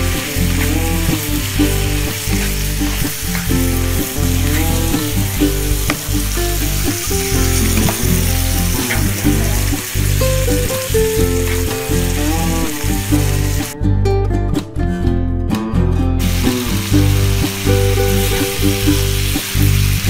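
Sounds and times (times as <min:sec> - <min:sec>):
meat sizzling in a frying pan: 0:00.0 - 0:13.8, 0:16.2 - 0:20.0
background music: 0:00.0 - 0:20.0.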